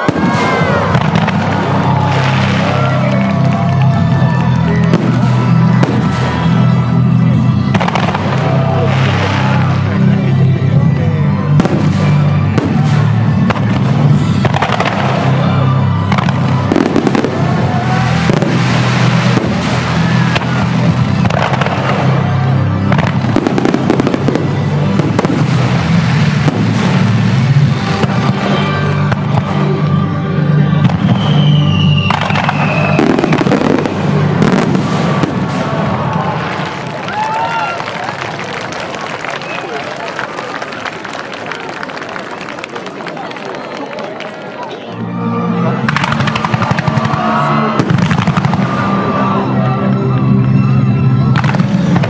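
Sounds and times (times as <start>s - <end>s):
fireworks bursting and crackling: 0.0s - 10.4s, 11.5s - 29.8s, 30.7s - 44.8s, 45.8s - 49.4s, 51.2s - 52.0s
music playing: 0.0s - 52.0s.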